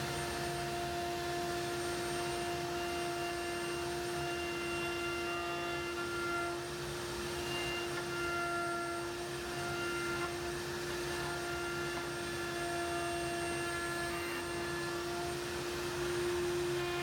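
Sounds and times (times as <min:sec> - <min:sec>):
router trimming wood: 0:00.0 - 0:17.0.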